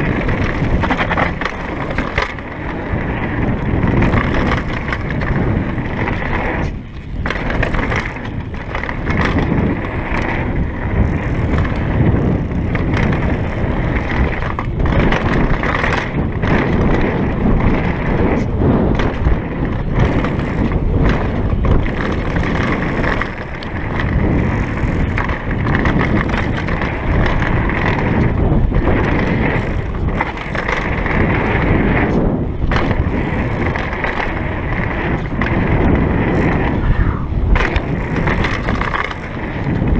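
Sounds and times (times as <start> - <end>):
bike knocking and rattling: 0.0 - 39.9
bike tyres on dirt trail: 0.0 - 39.9.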